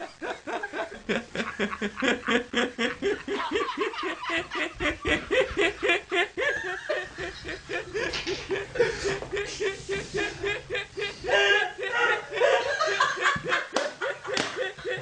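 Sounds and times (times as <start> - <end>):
person laughing heartily: 0.0 - 15.0.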